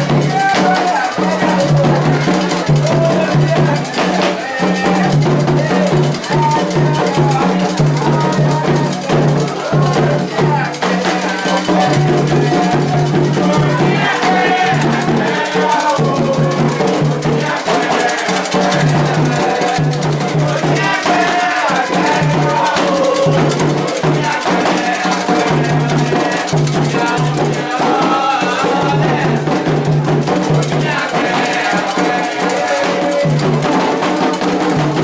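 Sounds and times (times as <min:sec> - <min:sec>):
hand drums: 0:00.0 - 0:35.0
shaken rattle: 0:00.0 - 0:35.0
voices singing: 0:00.0 - 0:35.0.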